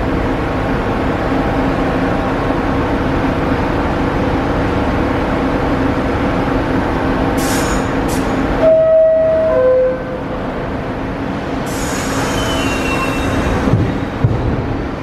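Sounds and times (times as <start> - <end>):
subway train equipment hum: 0.0 - 15.0.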